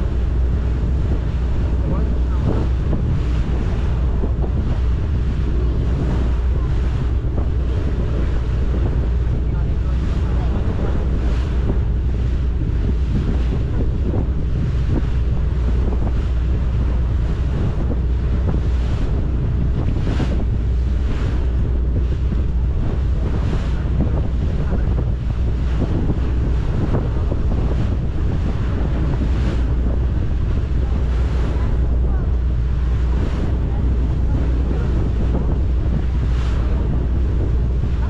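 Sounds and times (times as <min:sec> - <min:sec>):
boat engine drone: 0:00.0 - 0:38.0
water splashing along hull: 0:00.0 - 0:38.0
wind buffeting microphone: 0:00.0 - 0:38.0.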